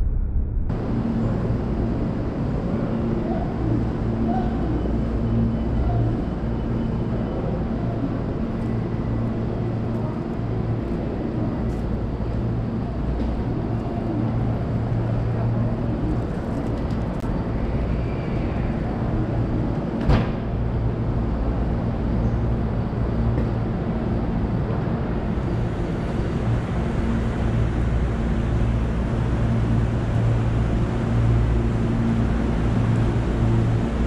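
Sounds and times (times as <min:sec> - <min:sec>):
electric train electrical hum: 0:00.0 - 0:34.0.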